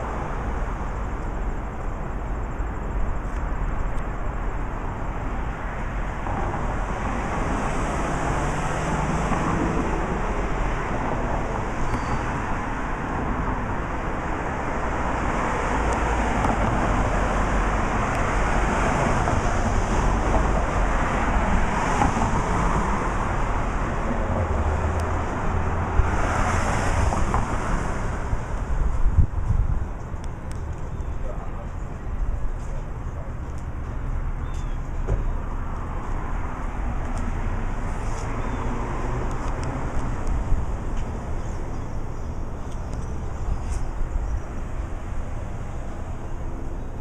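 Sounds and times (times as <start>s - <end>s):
passing cars: 0.0s - 47.0s.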